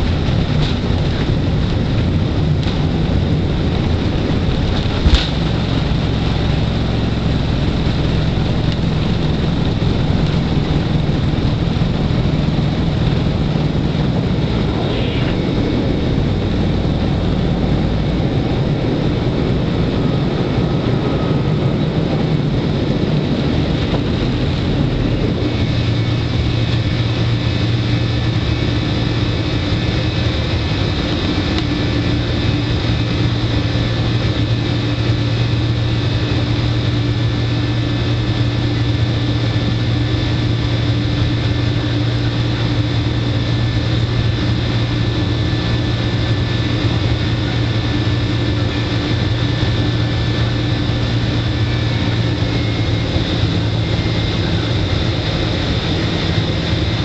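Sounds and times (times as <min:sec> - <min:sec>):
jet engines roaring: 0:00.0 - 0:57.0
runway rumble: 0:00.0 - 0:57.0.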